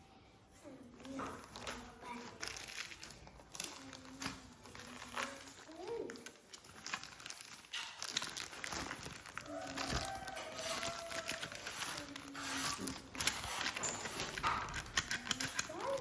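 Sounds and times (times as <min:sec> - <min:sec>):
packaging crinkling and rustling: 0:01.0 - 0:16.0.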